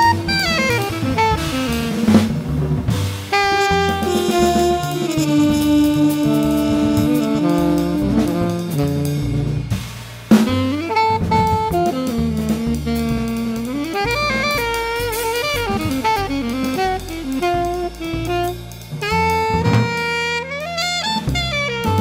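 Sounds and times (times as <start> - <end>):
drum kit: 0.0 - 22.0
saxophone melody: 0.0 - 22.0.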